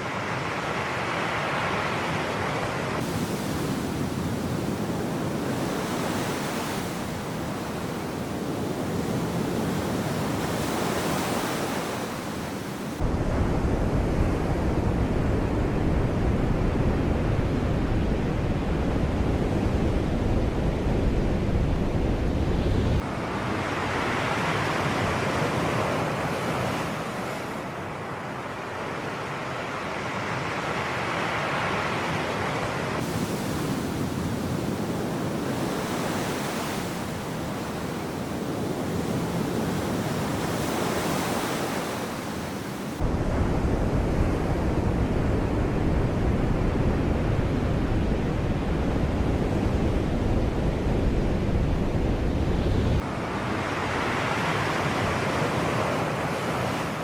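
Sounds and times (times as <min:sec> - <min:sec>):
waves washing on shore: 0:00.0 - 0:14.7, 0:23.0 - 0:45.8, 0:47.0 - 0:57.0.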